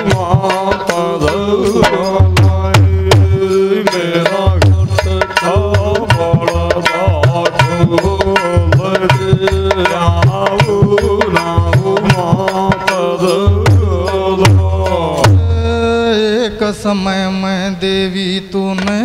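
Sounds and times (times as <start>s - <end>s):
hand drum beat: 0.0s - 15.6s
sharp clicking percussion: 0.0s - 15.8s, 18.8s - 19.0s.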